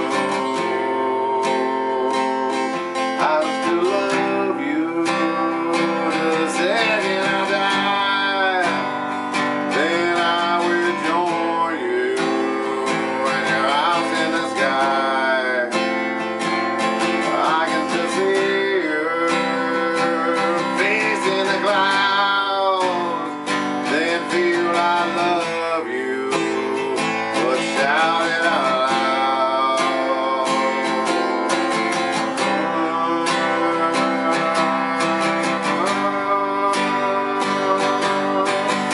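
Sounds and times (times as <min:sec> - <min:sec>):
acoustic guitar strumming chords: 0:00.0 - 0:38.9
man singing: 0:00.0 - 0:38.9.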